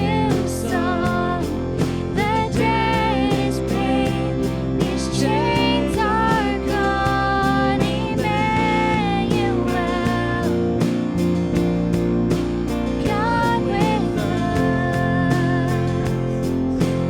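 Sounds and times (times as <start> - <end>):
guitar: 0.0 - 17.0
worship band music: 0.0 - 17.0.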